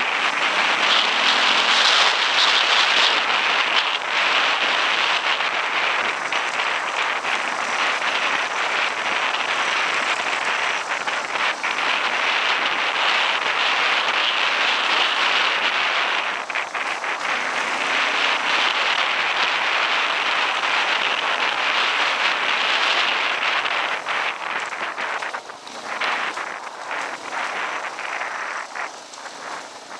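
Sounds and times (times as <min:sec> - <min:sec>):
wind on microphone: 0:00.0 - 0:29.9.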